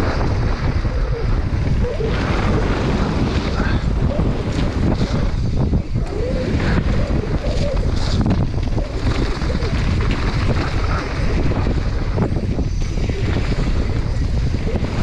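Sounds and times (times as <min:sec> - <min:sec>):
wind rushing over microphone: 0:00.0 - 0:15.0
bike rattling and knocking: 0:01.5 - 0:15.0.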